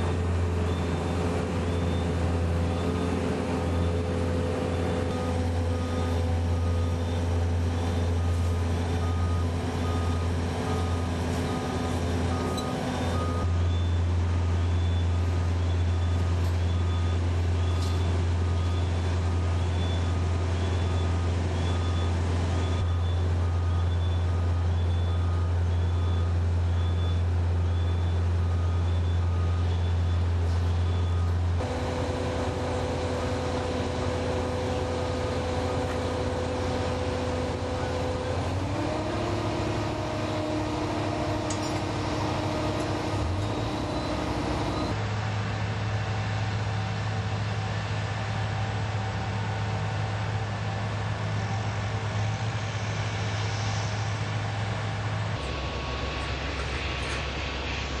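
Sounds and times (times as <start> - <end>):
diesel engine running: 0.0 - 58.0
engine whine: 0.0 - 58.0.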